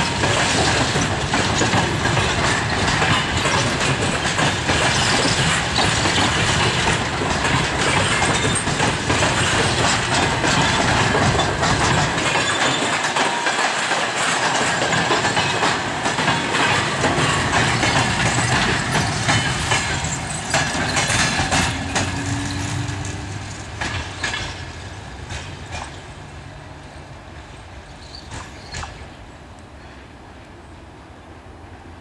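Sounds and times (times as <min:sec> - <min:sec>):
train wheels clattering over track: 0:00.0 - 0:30.4.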